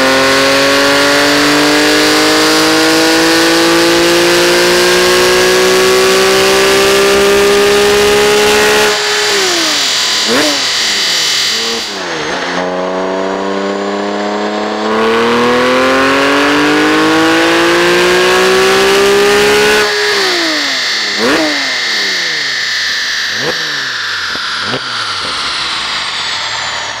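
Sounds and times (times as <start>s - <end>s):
sports car engine revving: 0.0s - 27.0s
dyno rollers whining: 2.1s - 27.0s.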